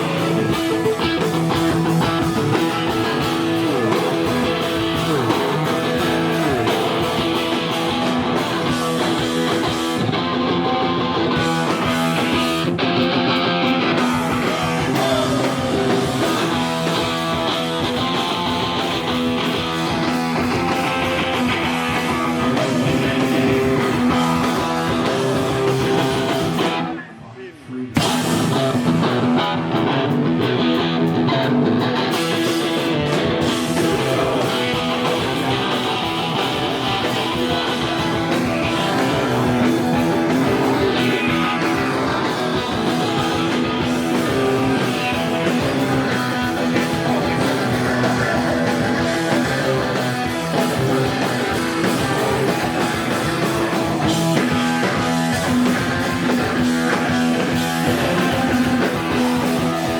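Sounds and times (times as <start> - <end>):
live rock band playing: 0.0 - 27.0, 27.9 - 59.9.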